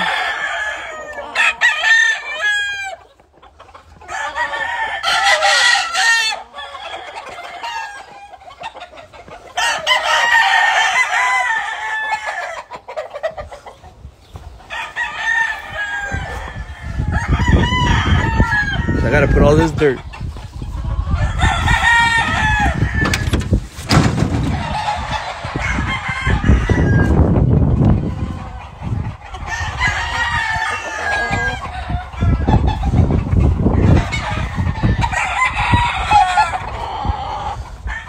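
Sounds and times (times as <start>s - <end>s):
chickens clucking: 0.0s - 38.0s
roosters crowing: 0.0s - 38.0s.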